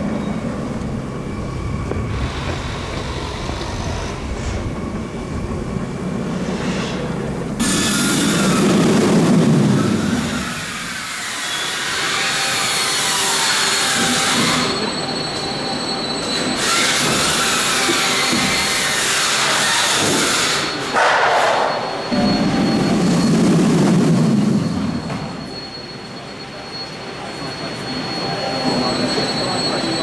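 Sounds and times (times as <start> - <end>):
roller coaster wheel roar: 0.0 - 30.0.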